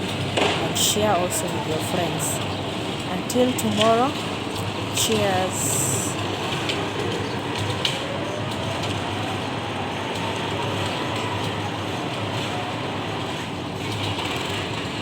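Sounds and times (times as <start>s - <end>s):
construction machinery drone: 0.0s - 15.0s.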